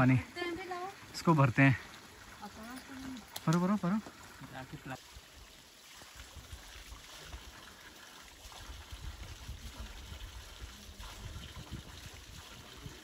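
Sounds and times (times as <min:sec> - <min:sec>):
water trickling into container: 0:00.0 - 0:13.0.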